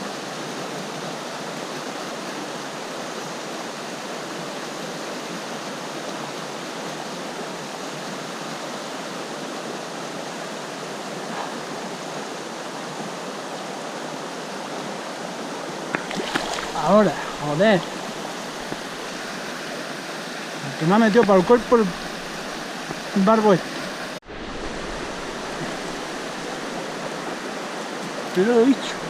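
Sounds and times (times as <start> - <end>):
river current rushing: 0.0 - 29.0.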